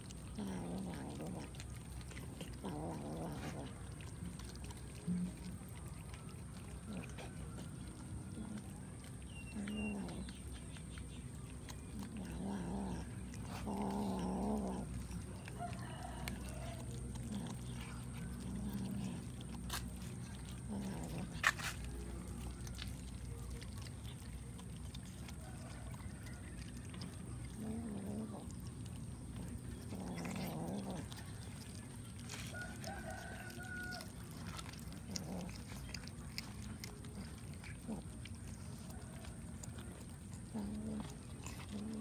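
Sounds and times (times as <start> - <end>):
cats growling: 0.0 - 42.0
wet chewing clicks: 0.0 - 42.0.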